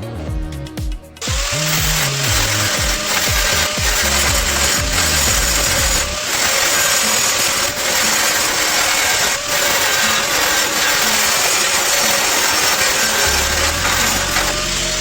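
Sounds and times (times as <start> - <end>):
power tool grinding sheet metal: 1.2 - 15.0.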